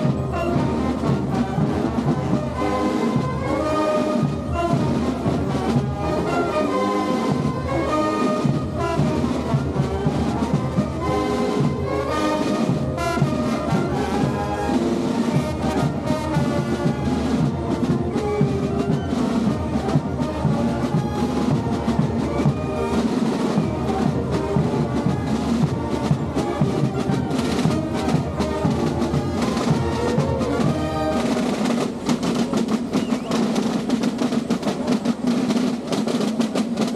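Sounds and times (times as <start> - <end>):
brass band playing: 0.0 - 36.9
drum beats: 0.0 - 36.9.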